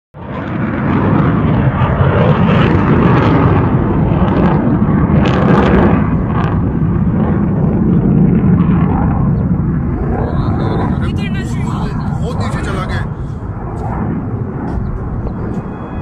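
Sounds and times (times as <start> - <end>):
jet engine rumble: 0.2 - 16.0.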